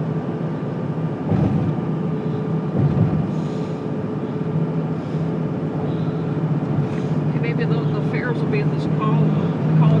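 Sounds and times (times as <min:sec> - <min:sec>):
car cabin engine hum: 0:00.0 - 0:10.0
tyre road noise: 0:00.0 - 0:10.0.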